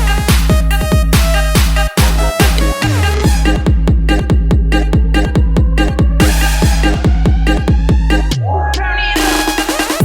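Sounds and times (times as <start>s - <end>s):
deep pitch-dropping kick drums: 0.0s - 8.4s
heavy sub-bass: 0.0s - 10.0s.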